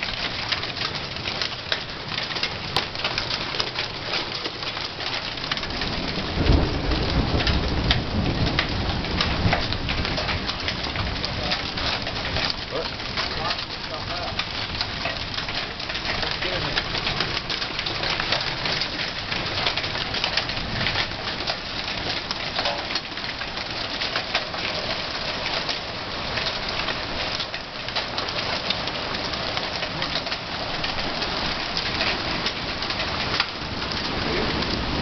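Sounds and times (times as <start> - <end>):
hail pattering on ground: 0.0 - 35.0.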